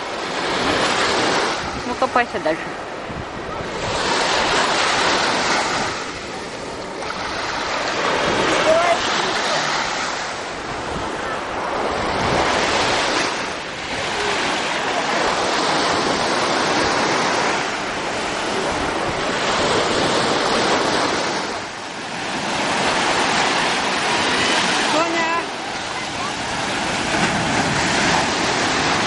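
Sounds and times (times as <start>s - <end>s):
waves washing on sandy beach: 0.0s - 29.0s.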